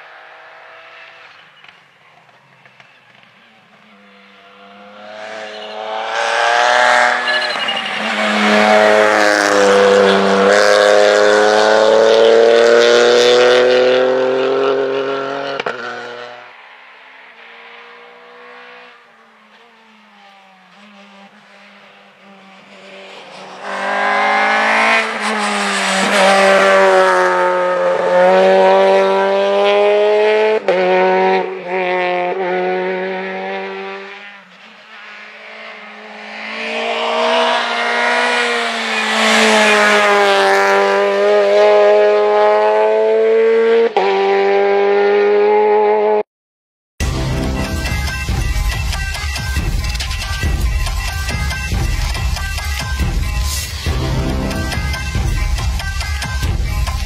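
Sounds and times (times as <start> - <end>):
rally cars passing at full throttle: 0.0 - 46.2, 47.0 - 57.0.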